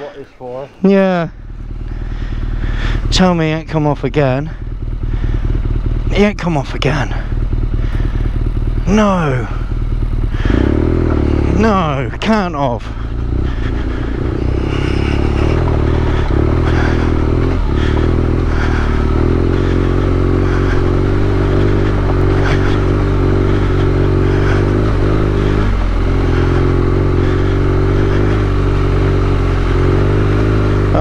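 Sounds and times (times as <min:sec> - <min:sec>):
motorcycle engine at low revs: 0:00.0 - 0:31.0.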